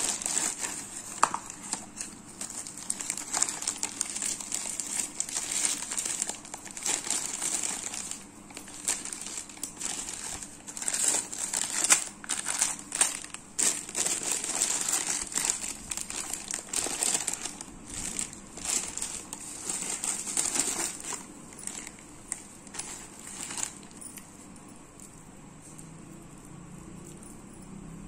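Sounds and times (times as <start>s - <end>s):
plastic wrap crinkling: 0.0s - 24.2s.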